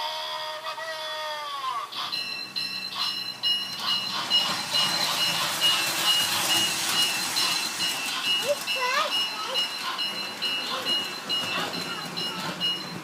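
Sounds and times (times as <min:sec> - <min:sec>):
toy train running: 0:00.0 - 0:13.0.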